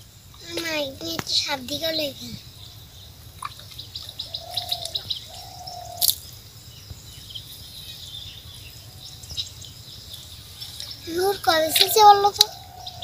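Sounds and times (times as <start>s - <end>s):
small birds chirping: 0.0s - 13.0s
long mid-pitched bird calls: 1.4s - 13.0s.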